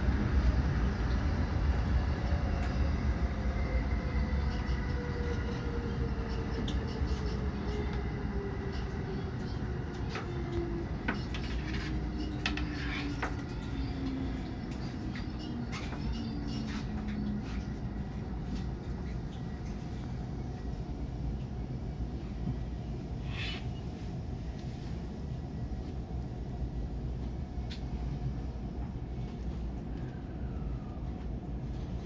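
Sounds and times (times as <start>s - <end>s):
train running gear rumble: 0.0s - 32.0s.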